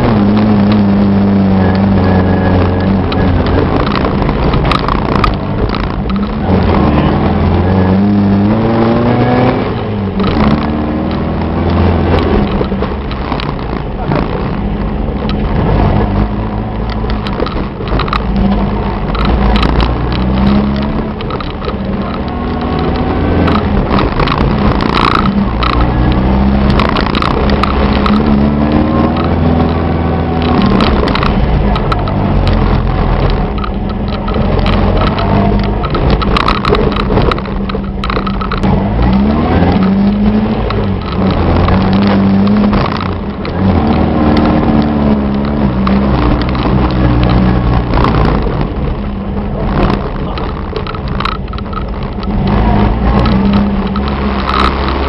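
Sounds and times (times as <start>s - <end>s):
off-road car engine revving: 0.0s - 55.0s.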